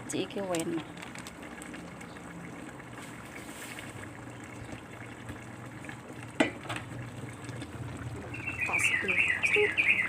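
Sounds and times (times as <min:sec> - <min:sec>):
pot simmering on stove: 0:00.0 - 0:10.0.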